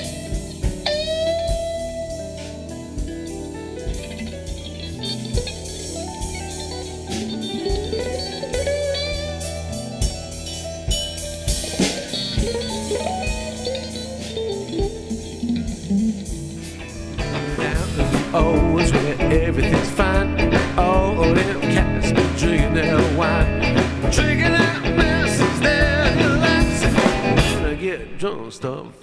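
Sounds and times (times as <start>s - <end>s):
drum hits: 0.0s - 28.2s
blues band playing: 0.0s - 28.4s
electric guitar lines: 0.0s - 29.0s.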